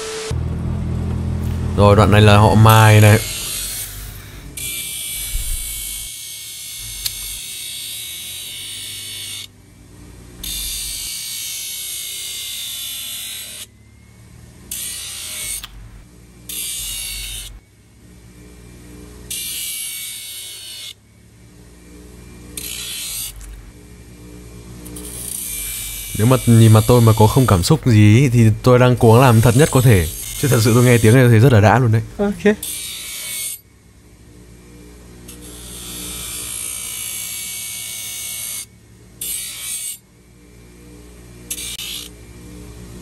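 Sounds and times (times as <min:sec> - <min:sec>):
grinder motor whirring: 0:00.0 - 0:33.7, 0:34.7 - 0:40.0, 0:40.6 - 0:43.0
metal grinding on bench grinder: 0:01.0 - 0:17.6, 0:18.3 - 0:21.0, 0:21.6 - 0:33.6, 0:35.2 - 0:40.0, 0:41.4 - 0:43.0.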